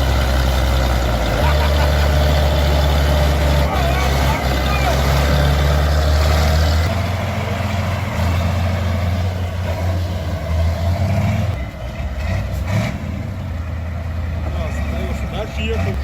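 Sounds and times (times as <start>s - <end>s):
heavy vehicle engine running: 0.0s - 16.0s.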